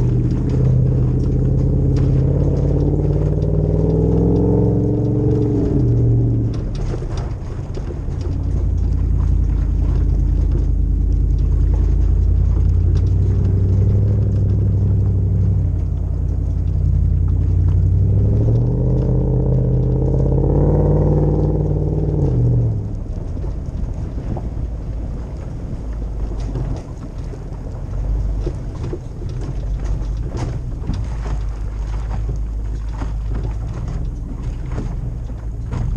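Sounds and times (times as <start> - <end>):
car engine rumbling and revving: 0.0 - 35.9.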